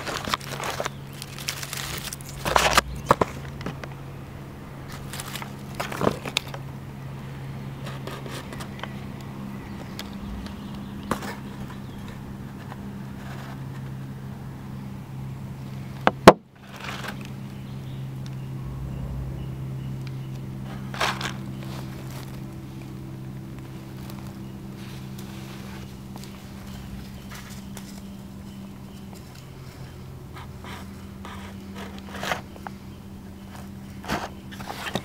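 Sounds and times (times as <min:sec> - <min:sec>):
crackles in dry leaves and twigs: 0:00.0 - 0:14.8, 0:15.6 - 0:35.0
steady low hum: 0:00.0 - 0:35.0.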